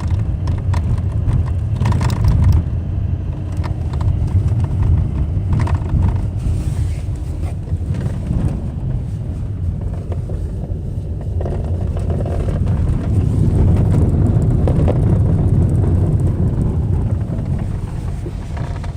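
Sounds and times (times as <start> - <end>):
tyres rumbling on gravel: 0.0 - 18.9.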